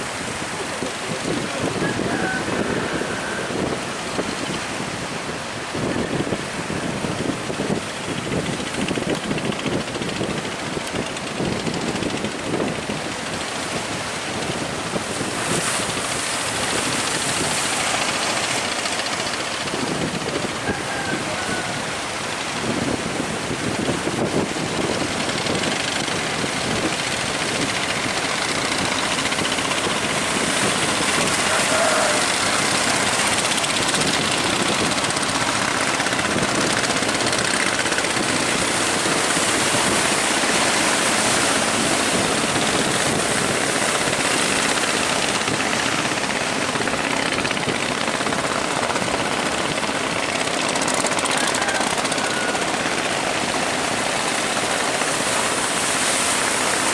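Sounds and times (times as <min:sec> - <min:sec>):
sea water rushing around ship: 0:00.0 - 0:56.9
wind: 0:00.0 - 0:56.9.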